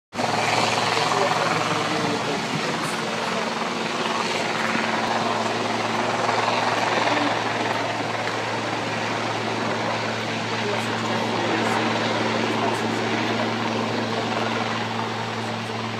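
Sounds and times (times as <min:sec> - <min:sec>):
helicopter engine and rotor: 0:00.1 - 0:15.9.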